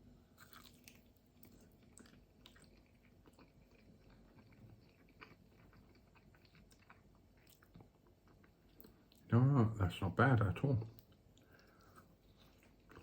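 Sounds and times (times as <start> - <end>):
faint chewing clicks: 0.4 - 9.3, 10.8 - 13.0.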